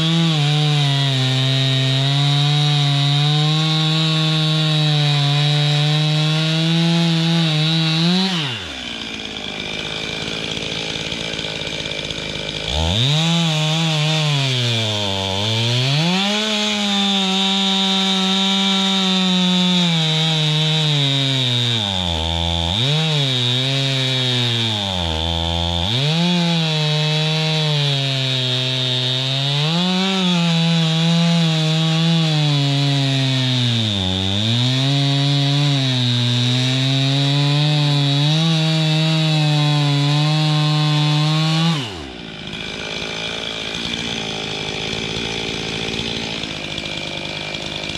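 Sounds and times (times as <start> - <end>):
chainsaw cutting through log: 0.0 - 47.9.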